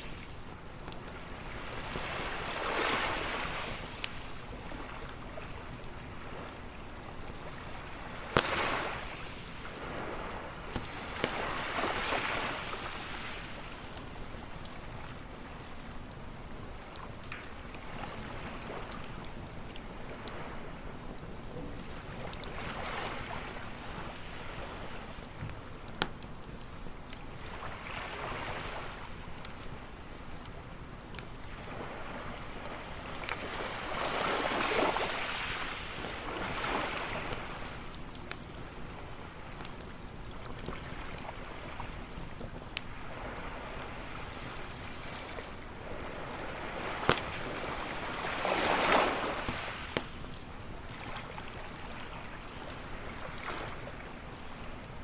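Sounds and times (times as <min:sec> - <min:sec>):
waves washing on beach: 0:00.0 - 0:25.8, 0:27.4 - 0:30.5, 0:31.4 - 0:55.0
campfire popping and crackling: 0:00.0 - 0:55.0.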